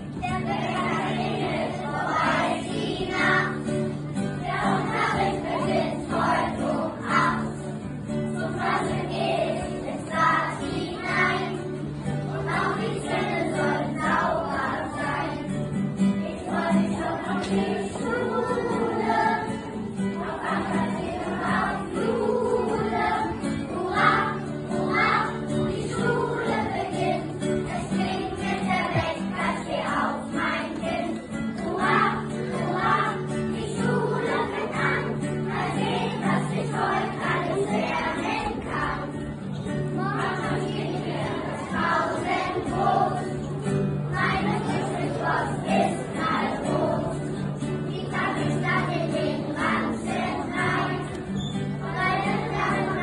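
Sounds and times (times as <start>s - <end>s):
children singing in unison: 0.0s - 53.0s
strummed acoustic guitar: 0.0s - 53.0s.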